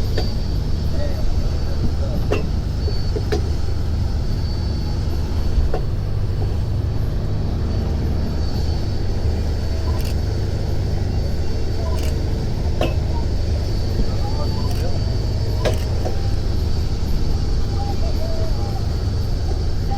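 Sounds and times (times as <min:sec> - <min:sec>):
boat engine rumbling: 0:00.0 - 0:19.9.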